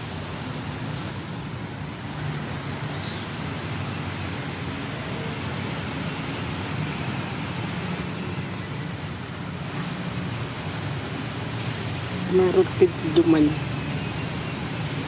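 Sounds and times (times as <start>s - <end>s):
even outdoor rush: 0.0s - 15.0s.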